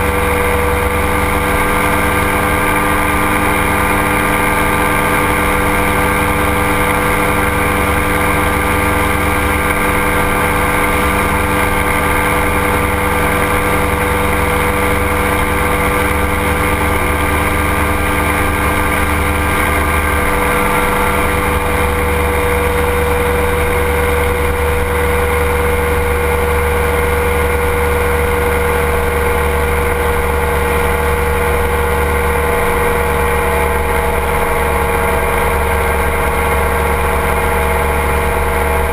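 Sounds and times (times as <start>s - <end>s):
ultralight aircraft engine and propeller: 0.0s - 38.9s.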